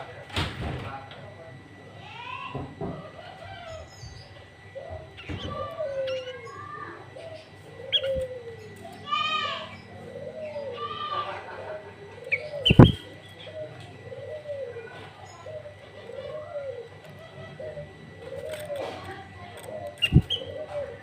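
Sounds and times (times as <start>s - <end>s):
higher bird phrases: 1.9s - 21.0s
low cooing call: 2.1s - 21.0s
bird calls: 2.8s - 21.0s.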